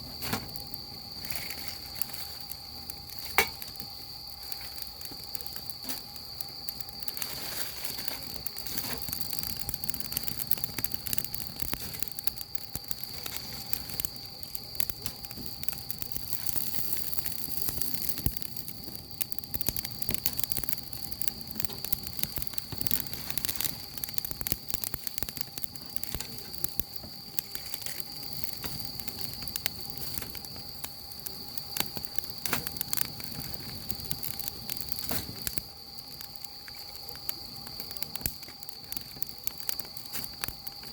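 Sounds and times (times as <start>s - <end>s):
high-pitched insect chirr: 0.0s - 40.9s
wood fire crackling and popping: 0.0s - 40.9s.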